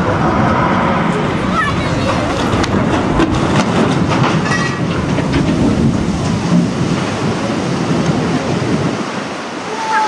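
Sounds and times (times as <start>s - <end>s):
ship hull sliding rumble: 0.0s - 9.6s
water rushing: 0.0s - 10.0s.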